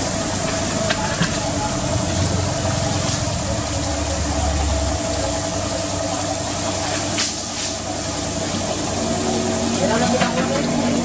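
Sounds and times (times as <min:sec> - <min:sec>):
pressure washer humming: 0:00.0 - 0:11.0
water jet hissing: 0:00.0 - 0:11.0.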